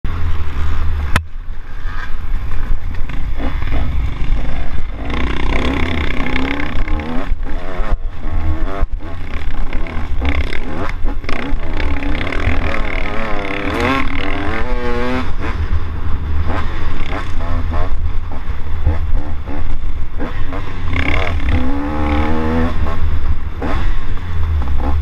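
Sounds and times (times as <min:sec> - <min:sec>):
dirt bike engine revving: 0:00.1 - 0:25.0
wind rumble on microphone: 0:00.1 - 0:25.0.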